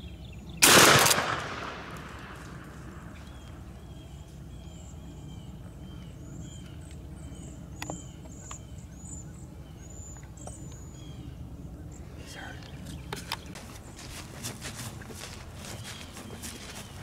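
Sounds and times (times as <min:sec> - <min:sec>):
low wind rumble: 0:00.0 - 0:17.0.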